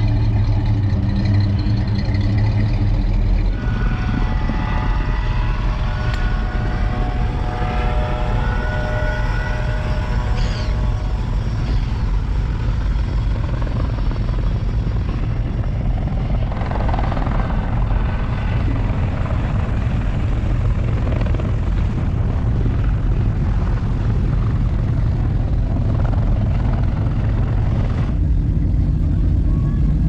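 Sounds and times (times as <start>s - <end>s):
helicopter rotor and engine drone: 0.0s - 30.0s.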